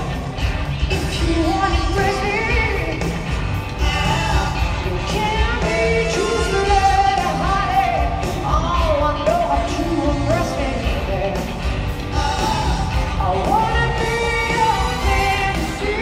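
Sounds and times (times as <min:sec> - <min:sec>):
electric bass: 0:00.0 - 0:16.0
woman singing: 0:00.8 - 0:11.5, 0:12.2 - 0:16.0.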